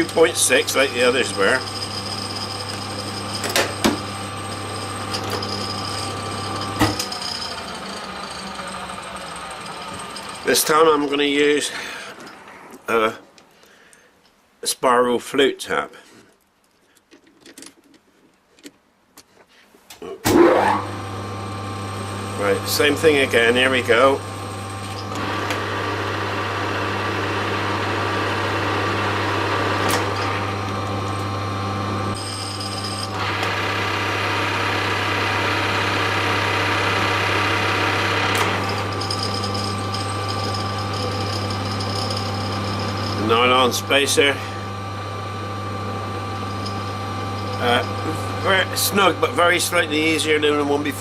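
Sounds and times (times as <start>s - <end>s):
drill motor starting: 0.0s - 13.1s, 20.3s - 51.0s.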